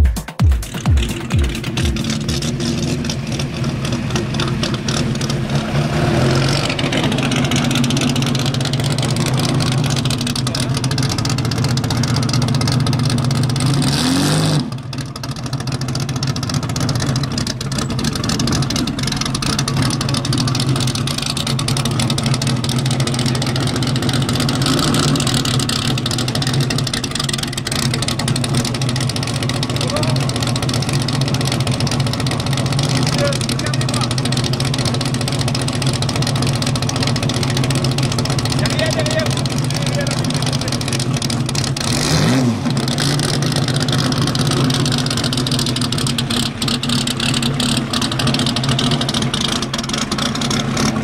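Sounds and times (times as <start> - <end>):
car engine idling and revving: 0.0 - 51.0.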